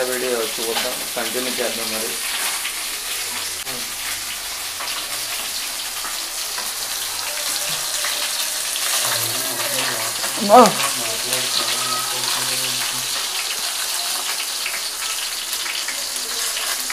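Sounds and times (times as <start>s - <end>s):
food sizzling in hot oil: 0.0s - 16.9s.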